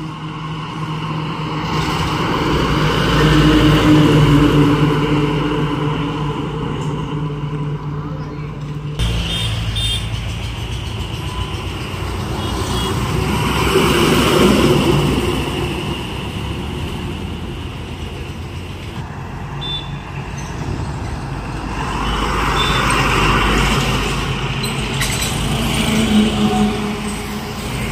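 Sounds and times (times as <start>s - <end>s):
lorries passing on highway: 0.0s - 27.9s.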